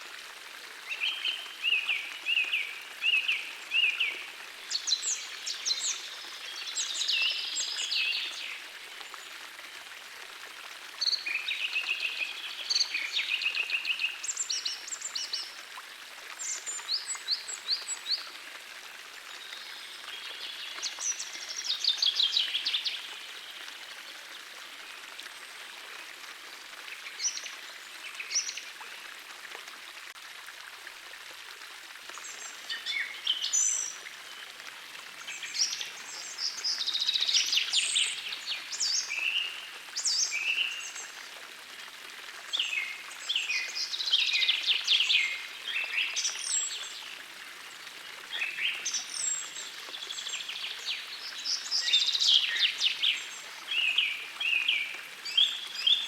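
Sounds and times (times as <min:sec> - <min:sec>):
forest stream flowing: 0:00.0 - 0:56.0.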